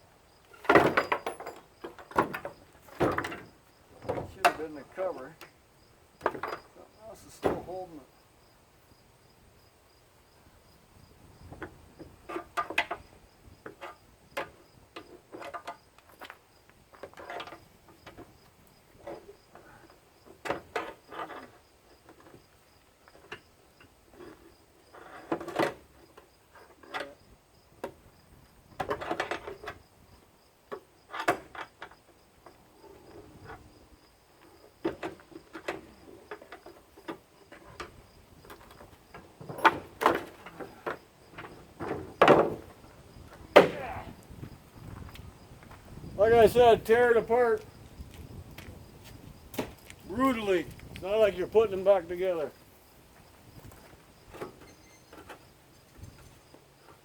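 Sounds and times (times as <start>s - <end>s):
crickets chirring: 0.1s - 25.3s, 25.9s - 57.0s.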